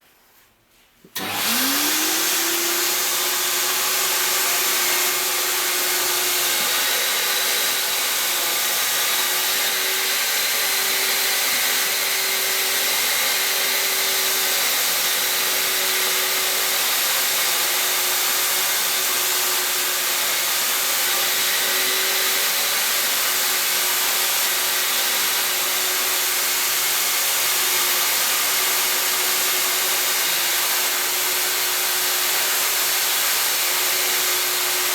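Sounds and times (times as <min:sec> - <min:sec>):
industrial vacuum cleaner running: 0:01.2 - 0:34.9.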